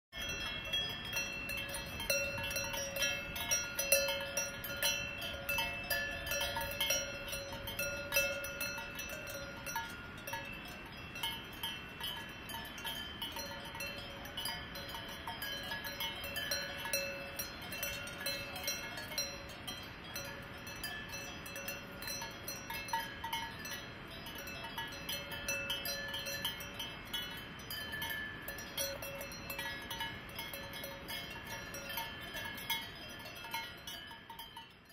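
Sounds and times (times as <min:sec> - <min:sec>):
cowbells clanking: 0:00.1 - 0:34.9.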